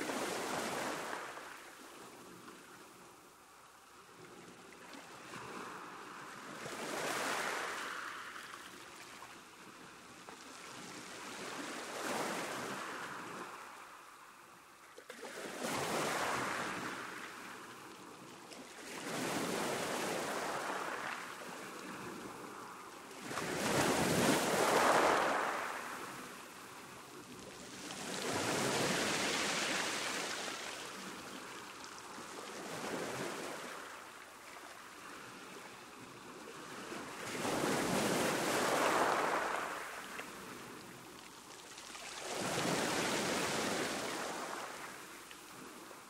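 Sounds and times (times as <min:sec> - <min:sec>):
sea waves breaking on shore: 0:00.0 - 0:03.4, 0:04.1 - 0:46.0.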